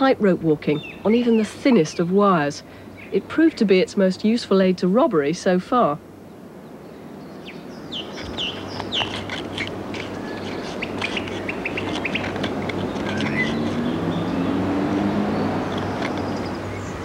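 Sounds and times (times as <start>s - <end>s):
small birds chirping: 0.6s - 3.9s, 6.3s - 17.0s.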